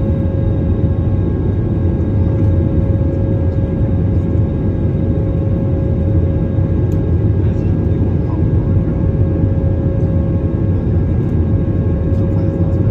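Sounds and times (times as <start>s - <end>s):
aircraft cabin engine rumble: 0.0s - 12.9s
constant humming tone: 0.0s - 12.9s.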